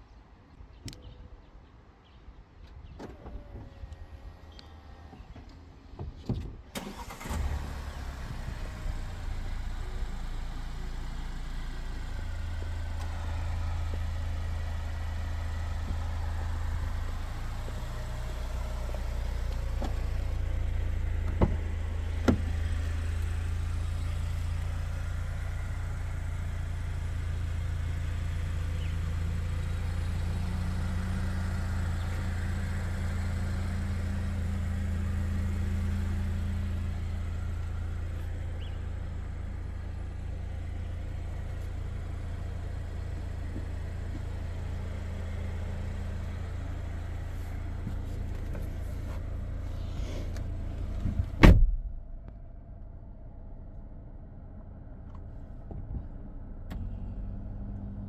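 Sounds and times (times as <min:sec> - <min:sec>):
car engine starting and idling: 0:02.8 - 0:58.0.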